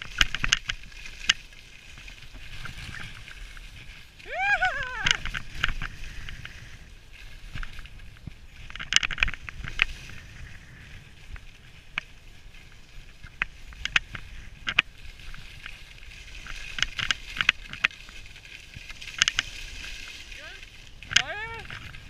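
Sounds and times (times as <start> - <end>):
skis scraping over snow: 0.0 - 22.0
wind rumble on microphone: 0.0 - 22.0.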